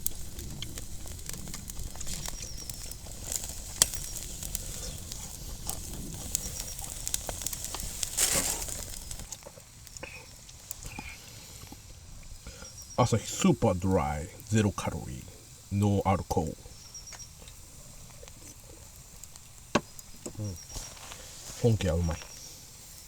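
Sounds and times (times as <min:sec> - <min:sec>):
campfire crackling and popping: 0:00.0 - 0:23.0
short rustling hiss: 0:01.4 - 0:23.0.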